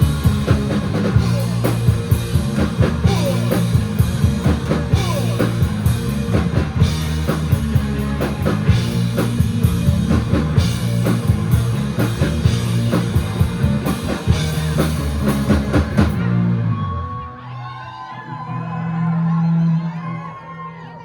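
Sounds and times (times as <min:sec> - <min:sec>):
live rock band playing: 0:00.0 - 0:17.2.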